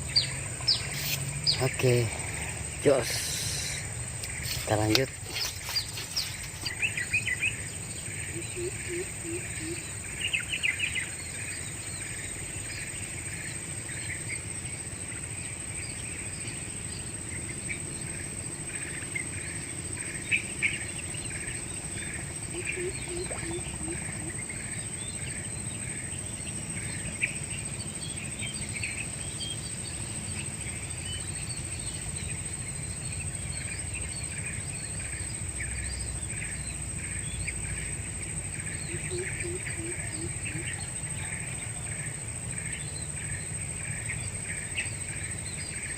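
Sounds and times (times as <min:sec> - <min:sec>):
birds chirping: 0:00.0 - 0:35.7, 0:38.3 - 0:45.9
insects droning: 0:00.0 - 0:45.9.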